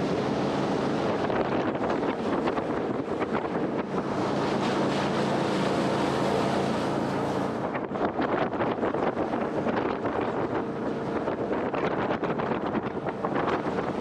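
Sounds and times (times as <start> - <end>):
boat engine running: 0.0 - 14.0
wind rushing over microphone: 0.0 - 14.0.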